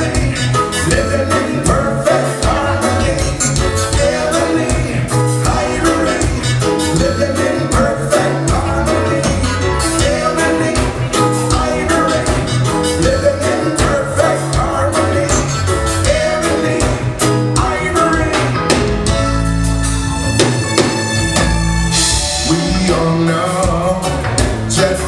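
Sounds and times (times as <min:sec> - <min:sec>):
person singing: 0:00.0 - 0:19.1, 0:22.2 - 0:25.0
reggae band playing: 0:00.0 - 0:25.0.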